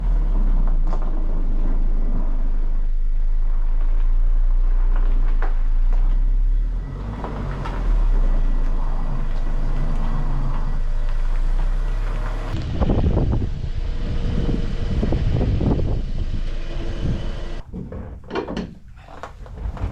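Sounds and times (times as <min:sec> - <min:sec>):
road rumble: 0:00.0 - 0:17.7.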